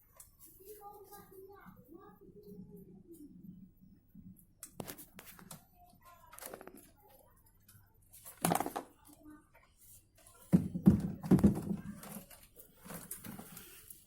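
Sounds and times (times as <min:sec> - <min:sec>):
rustling: 0:00.0 - 0:03.3, 0:04.7 - 0:14.0.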